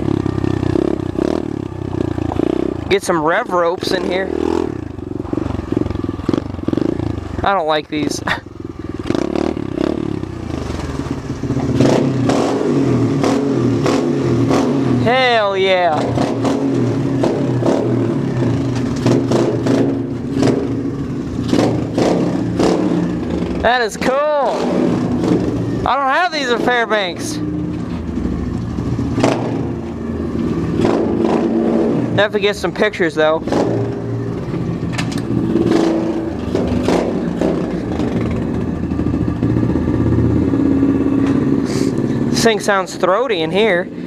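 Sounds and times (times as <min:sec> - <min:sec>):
engine knocks and clatter: 0:00.0 - 0:15.1, 0:15.8 - 0:44.0.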